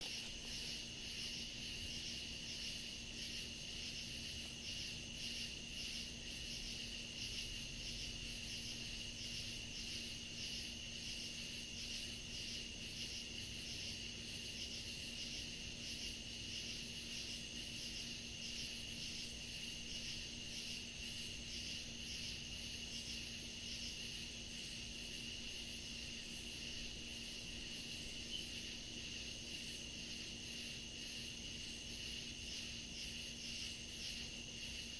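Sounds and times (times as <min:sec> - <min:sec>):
continuous insect trill: 0:00.0 - 0:34.9
pulsed cricket chirping: 0:00.0 - 0:34.9.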